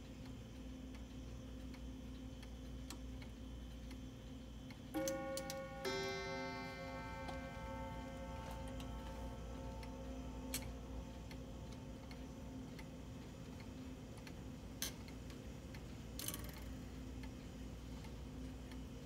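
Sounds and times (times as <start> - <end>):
clock mechanism clicks: 0.0 - 19.0
wall clock ticking: 0.0 - 19.0.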